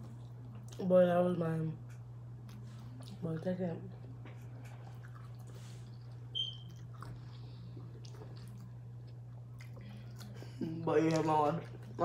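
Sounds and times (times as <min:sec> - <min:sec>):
people chewing food: 0:00.0 - 0:00.9, 0:01.8 - 0:12.0
steady low hum: 0:00.0 - 0:12.0.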